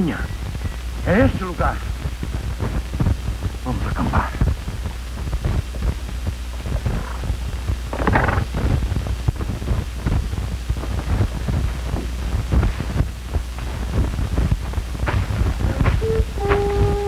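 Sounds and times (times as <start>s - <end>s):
film soundtrack hum and hiss: 0.0s - 17.0s
crackles and knocks: 1.7s - 17.0s.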